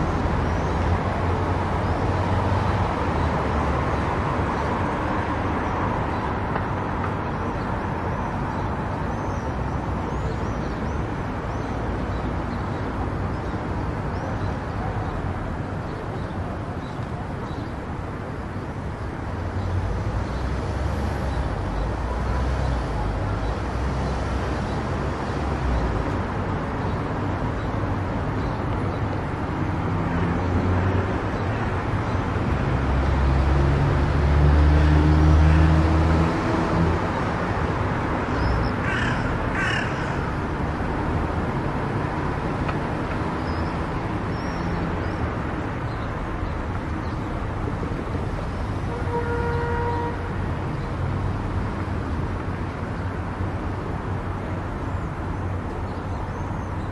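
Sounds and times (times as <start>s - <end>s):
car road and tyre noise: 0.0s - 56.9s.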